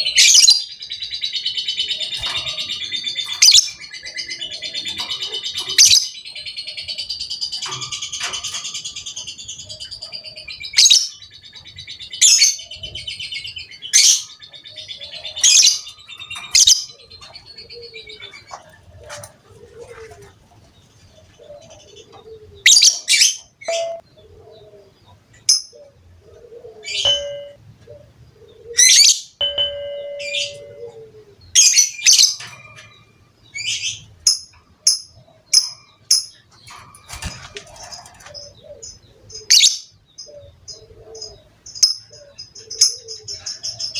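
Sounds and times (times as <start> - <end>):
lovebird chirping: 0.0 - 20.2, 21.0 - 24.7, 26.8 - 43.9.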